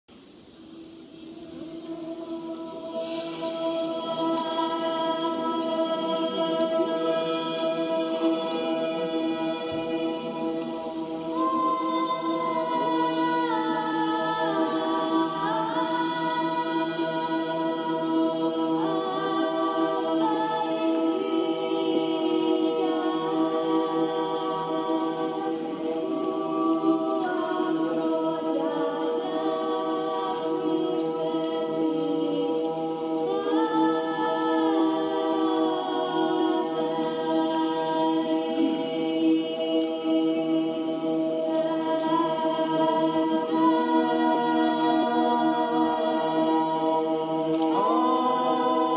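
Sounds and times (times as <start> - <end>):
voices singing a cappella: 0.0 - 48.9.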